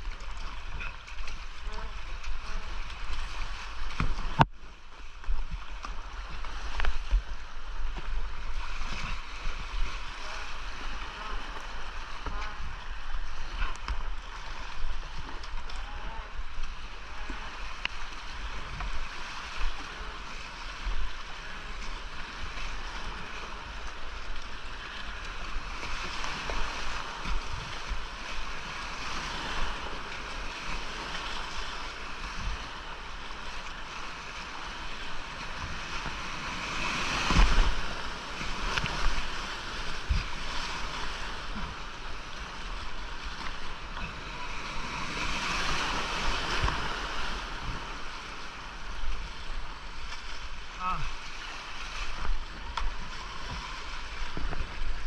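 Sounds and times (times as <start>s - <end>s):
whitewater rushing and splashing: 0.0s - 55.0s.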